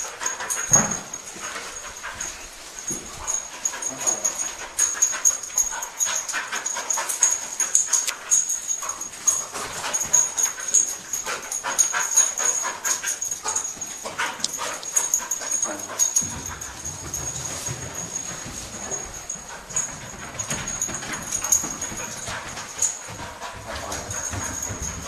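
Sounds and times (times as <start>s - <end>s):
dog panting: 0.0s - 25.0s.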